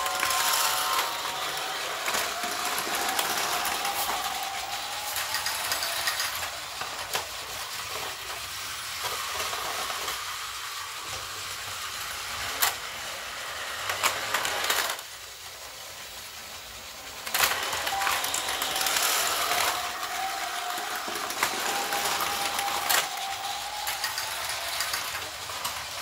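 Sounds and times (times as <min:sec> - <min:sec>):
sharp clicks of toy track: 0:00.0 - 0:26.0
toy train whirring: 0:00.0 - 0:26.0.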